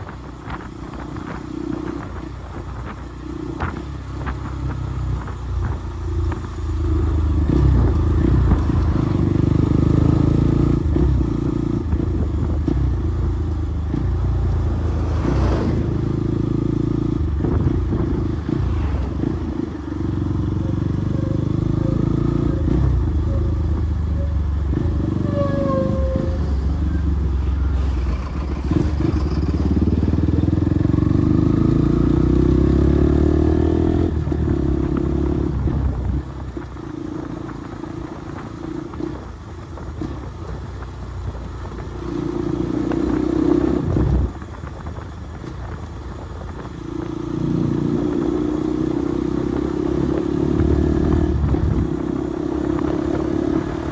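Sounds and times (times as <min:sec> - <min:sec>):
motorcycle engine through exhaust: 0:00.0 - 0:53.9.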